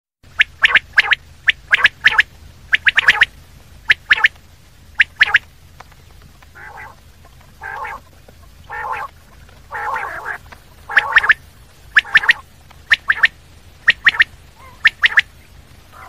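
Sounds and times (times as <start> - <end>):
quail calling: 0.4 - 4.4, 5.0 - 5.5, 6.3 - 16.0.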